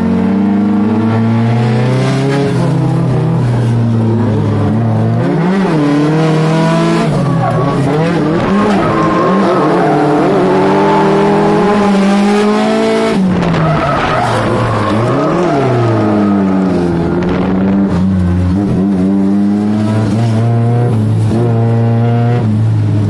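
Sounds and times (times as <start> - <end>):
car engine at high revs: 0.0 - 23.0
tyres skidding: 0.5 - 21.4.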